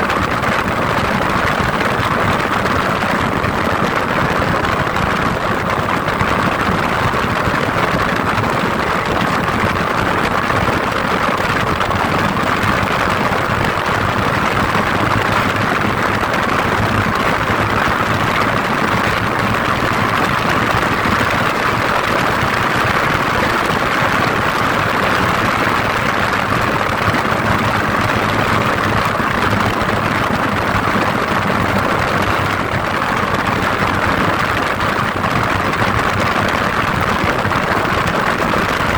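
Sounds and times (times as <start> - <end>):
vehicle engine hum: 0.0 - 38.9.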